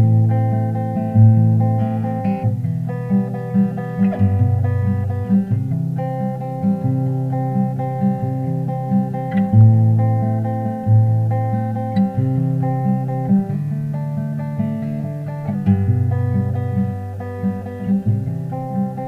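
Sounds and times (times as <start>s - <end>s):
acoustic guitar strummed and plucked: 0.0s - 19.0s.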